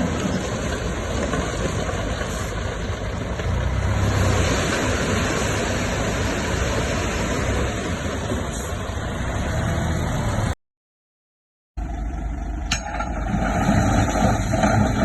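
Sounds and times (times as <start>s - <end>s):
diesel machinery rumbling: 0.0s - 10.6s, 11.8s - 15.0s.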